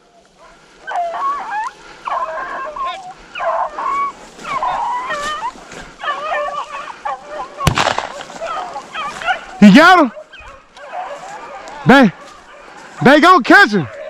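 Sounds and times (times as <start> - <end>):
hounds baying: 0.0 - 14.0.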